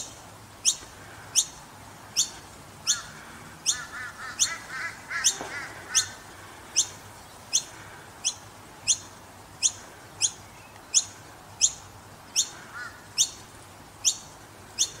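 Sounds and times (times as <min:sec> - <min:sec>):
bird fledglings calling: 0:00.0 - 0:15.0.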